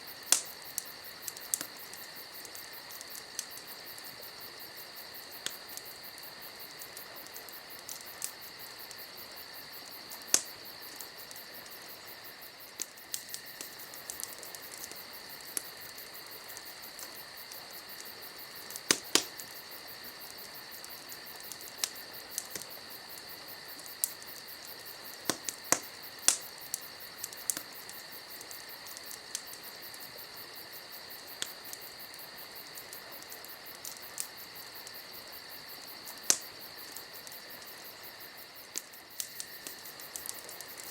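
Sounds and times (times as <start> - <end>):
campfire crackling: 0.0 - 40.9
insects chirring: 0.0 - 40.9.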